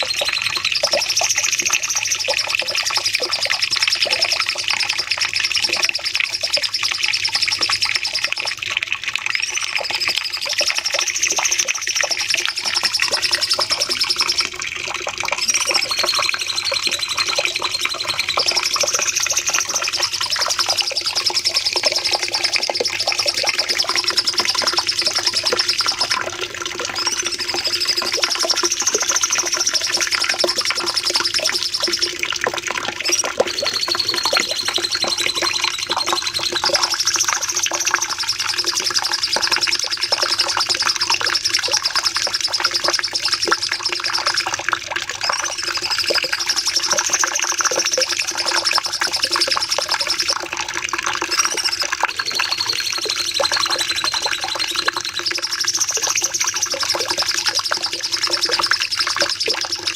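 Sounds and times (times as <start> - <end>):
bird singing high-pitched trills: 0.0 - 8.6, 9.3 - 32.2, 32.8 - 59.9.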